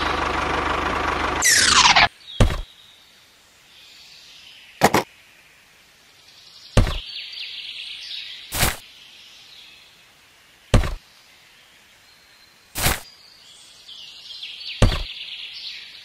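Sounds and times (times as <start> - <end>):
high-pitched outdoor ambience: 1.4 - 16.0.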